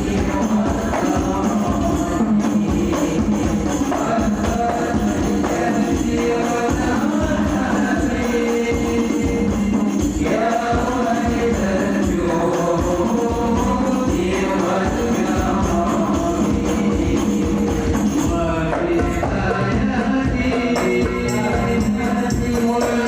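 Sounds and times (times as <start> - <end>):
devotional singing: 0.0 - 23.0
drum: 0.0 - 23.0
tambourine: 0.0 - 23.0.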